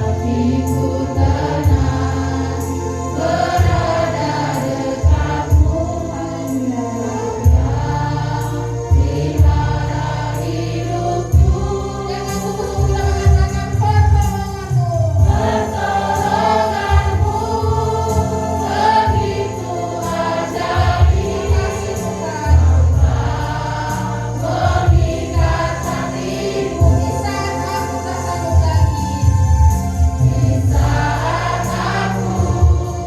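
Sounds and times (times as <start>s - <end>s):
sustained bass line: 0.0s - 14.4s, 15.2s - 33.0s
choir singing worship song: 0.0s - 33.0s
instrumental accompaniment: 0.1s - 33.0s.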